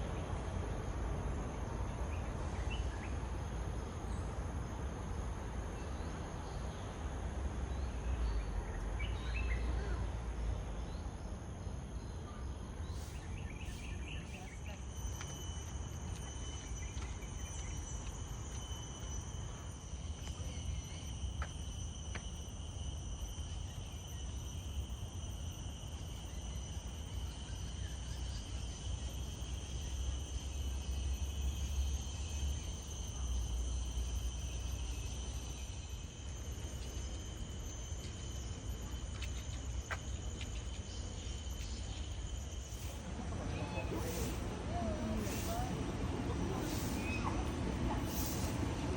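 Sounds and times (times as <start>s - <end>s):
insects calling: 0.0s - 48.9s.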